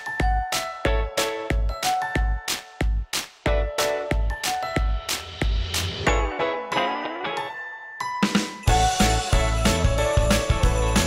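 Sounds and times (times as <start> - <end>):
electronic music with bell notes: 0.0 - 11.0.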